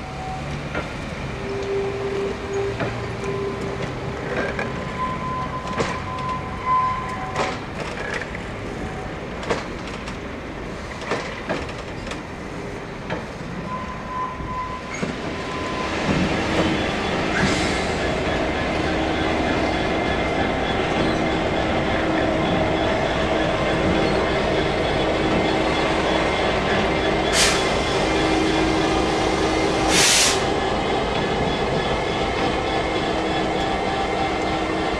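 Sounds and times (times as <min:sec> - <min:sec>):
train running on rails: 0:00.0 - 0:34.9.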